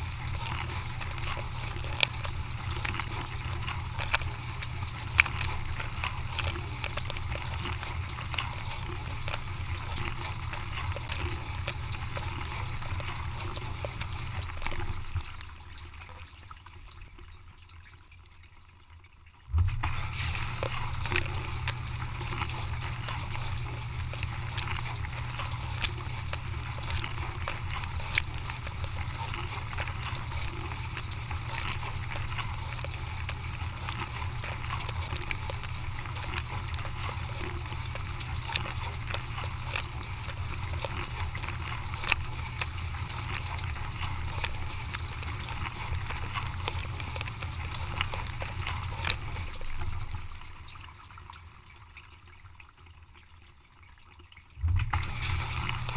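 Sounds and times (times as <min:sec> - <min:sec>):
water spraying inside dishwasher: 0:00.0 - 0:18.1, 0:19.6 - 0:51.8, 0:54.8 - 0:55.9
water striking ticks: 0:00.0 - 0:18.2, 0:19.9 - 0:53.3
dishwasher pump hum: 0:00.0 - 0:53.7, 0:54.5 - 0:55.9.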